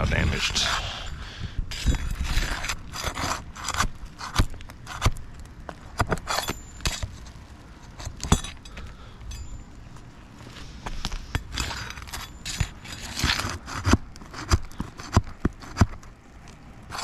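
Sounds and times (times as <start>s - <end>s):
shingles scraping: 0.0s - 9.1s, 10.4s - 16.2s.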